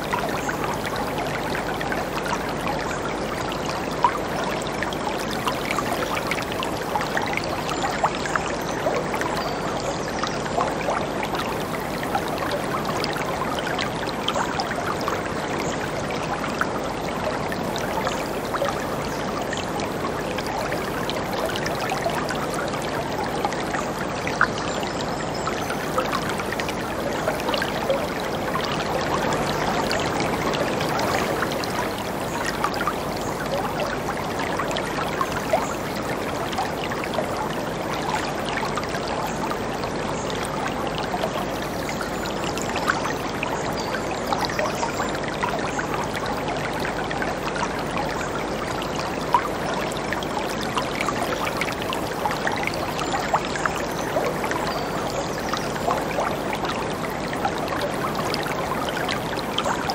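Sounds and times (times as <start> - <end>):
water splashes: 0.0 - 59.9.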